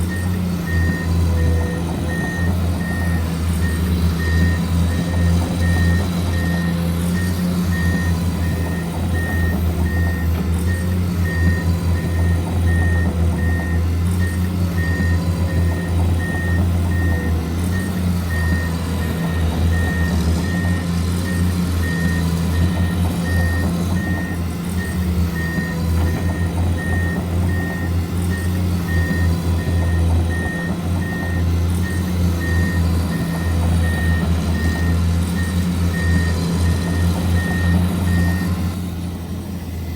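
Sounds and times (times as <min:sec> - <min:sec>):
reversing alarm beeps: 0:00.0 - 0:38.7
low simulated engine drone: 0:00.0 - 0:39.9.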